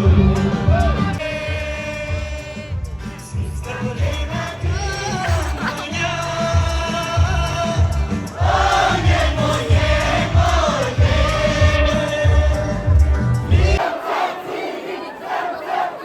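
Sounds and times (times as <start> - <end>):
bass drum beat: 0.0 - 13.8
rock band playing: 0.0 - 13.8
crowd shouting: 0.0 - 16.0.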